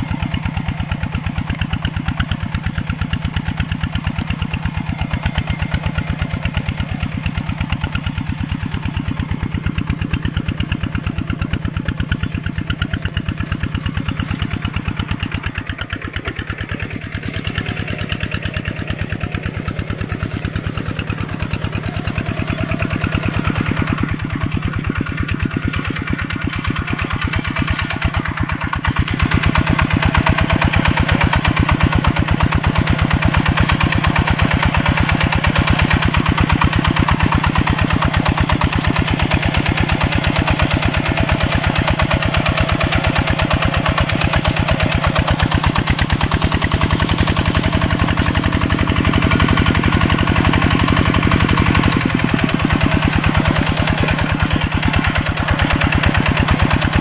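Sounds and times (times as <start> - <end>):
tractor diesel engine chugging: 0.0 - 57.0.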